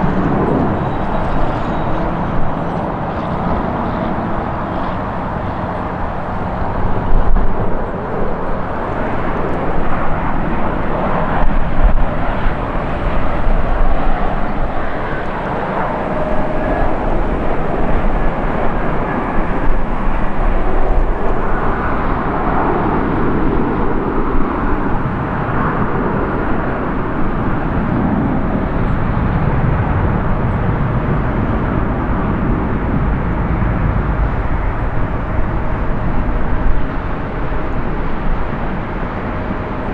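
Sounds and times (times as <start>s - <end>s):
jet engine rumble and hiss: 0.0s - 39.9s.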